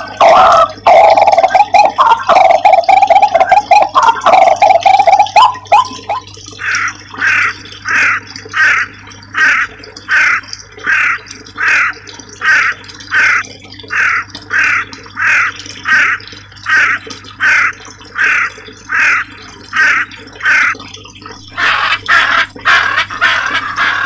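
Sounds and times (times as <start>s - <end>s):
bird harsh raspy call: 0.0s - 20.8s, 21.5s - 24.0s.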